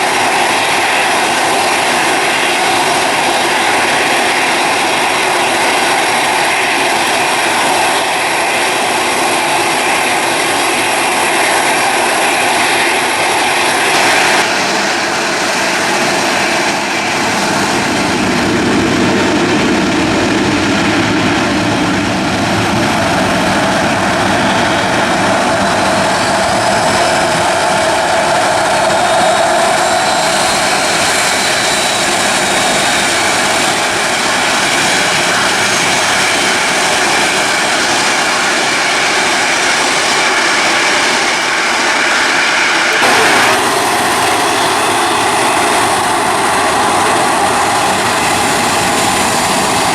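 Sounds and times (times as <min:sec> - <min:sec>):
airliner engines running: 0:00.0 - 0:49.9.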